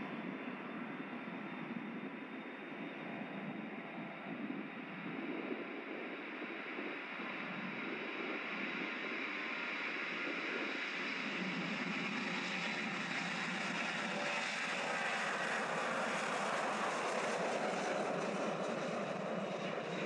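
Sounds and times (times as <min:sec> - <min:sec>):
jet engines at high power: 0:00.0 - 0:20.0.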